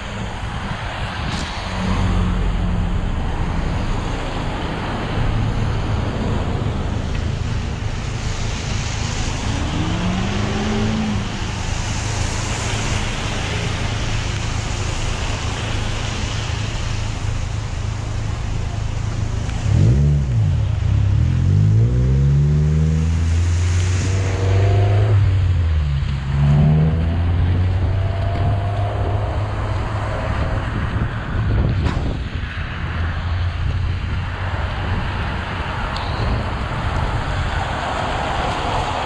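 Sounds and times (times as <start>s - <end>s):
tyres hissing on wet pavement: 0.0s - 31.4s
cars idling and moving: 0.0s - 39.0s.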